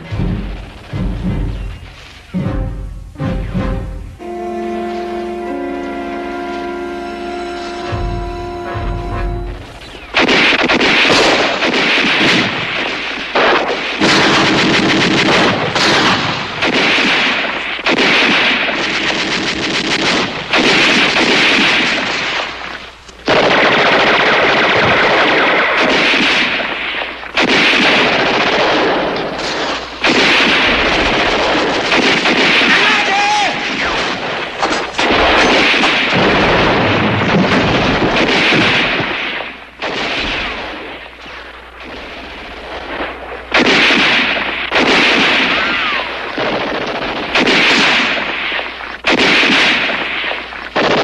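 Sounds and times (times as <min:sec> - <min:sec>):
rapid machine-gun and rifle fire: 0:09.9 - 0:51.0.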